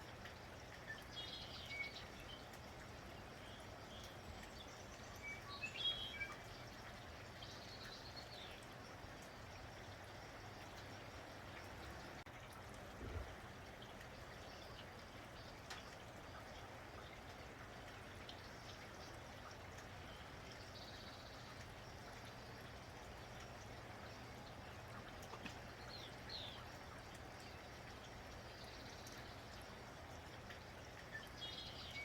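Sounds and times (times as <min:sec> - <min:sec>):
rain patter with drips: 0:00.0 - 0:32.0.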